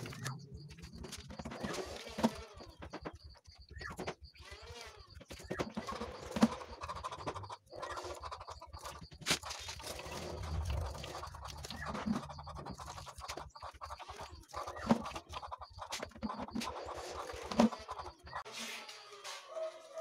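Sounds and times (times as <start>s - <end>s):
bird cages moved on concrete: 0.0s - 13.4s, 14.3s - 20.0s.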